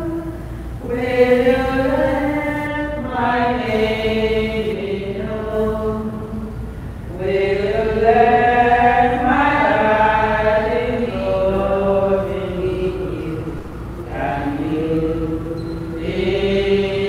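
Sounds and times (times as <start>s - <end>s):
voices chanting a hymn: 0.0s - 17.0s.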